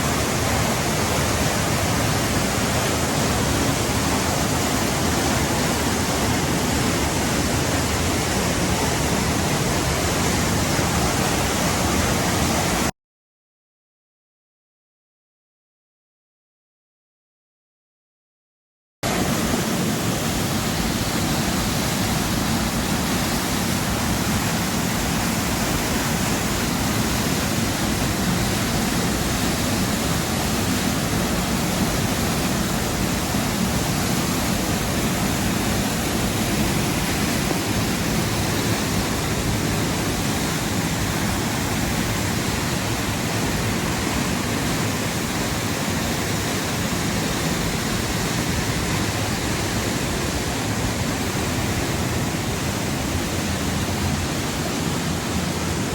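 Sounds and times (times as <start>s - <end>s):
waterfall rushing: 0.0s - 12.9s, 19.0s - 55.9s.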